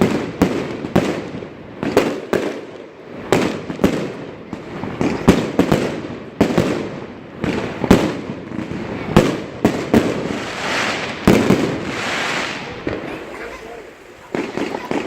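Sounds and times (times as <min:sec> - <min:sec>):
firework crackling hiss: 0:00.0 - 0:15.0
fireworks sharp bangs: 0:00.0 - 0:15.0.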